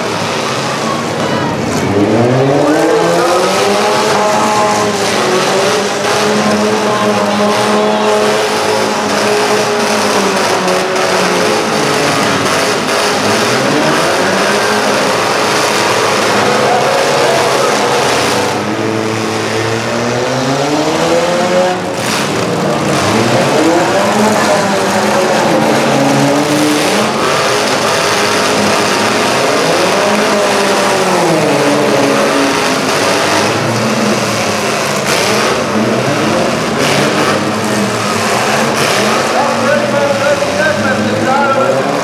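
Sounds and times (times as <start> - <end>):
car engines revving hard: 0.0 - 42.0.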